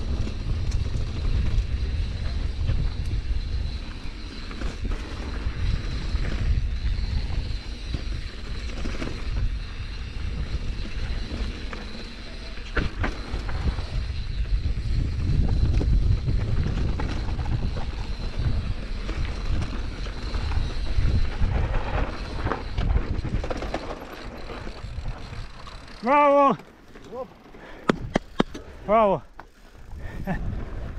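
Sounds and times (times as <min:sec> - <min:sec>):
wind on microphone: 0:00.0 - 0:11.8, 0:12.7 - 0:25.8, 0:29.8 - 0:30.9
tyre and trail noise: 0:00.0 - 0:30.9.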